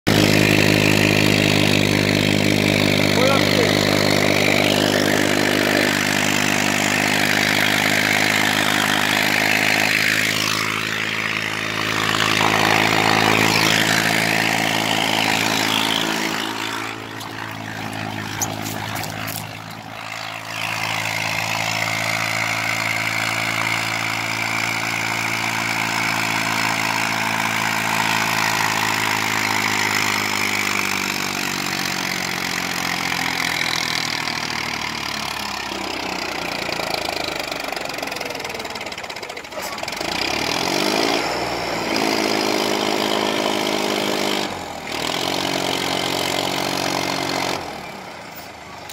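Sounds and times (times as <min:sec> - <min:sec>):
tractor diesel engine running: 0:00.1 - 0:48.9.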